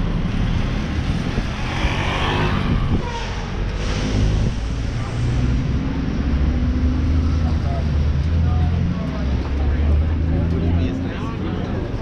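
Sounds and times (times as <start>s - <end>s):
vehicle engines humming: 0.0s - 12.0s
vehicle passing: 0.3s - 12.0s.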